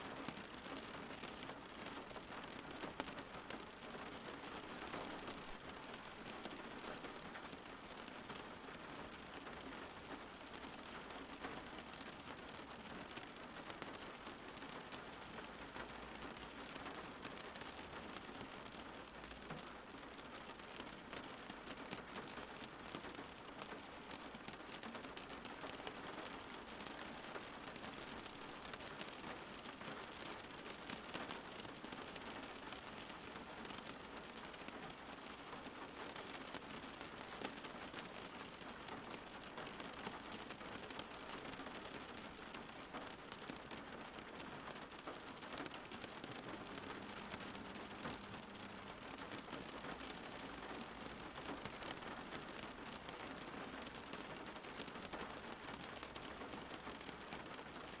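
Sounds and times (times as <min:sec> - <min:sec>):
rain pattering on surfaces: 0:00.0 - 0:58.0.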